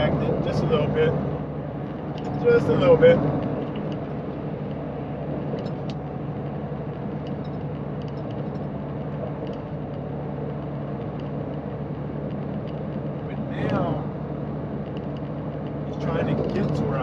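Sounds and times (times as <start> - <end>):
diesel truck engine droning: 0.0 - 17.0
road noise: 0.0 - 17.0.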